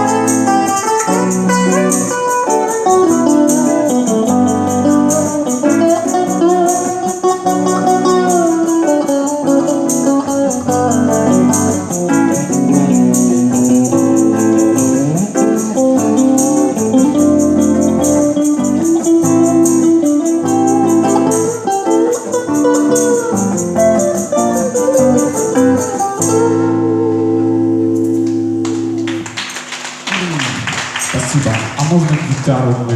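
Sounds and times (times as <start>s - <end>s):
live band playing guitars: 0.0s - 32.9s.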